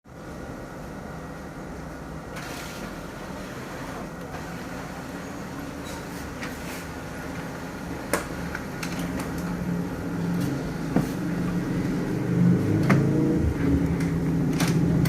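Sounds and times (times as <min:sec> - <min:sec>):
printing machine humming: 0:00.1 - 0:15.0.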